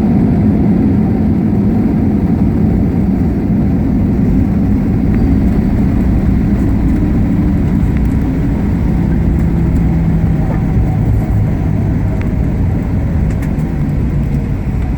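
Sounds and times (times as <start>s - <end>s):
aircraft engines and airflow rumble: 0.0s - 14.9s
low hum dropping in pitch: 2.1s - 14.9s.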